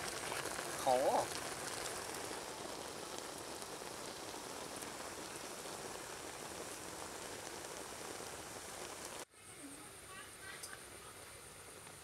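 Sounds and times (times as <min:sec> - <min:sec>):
food sizzling in bubbling sauce: 0:00.0 - 0:12.0.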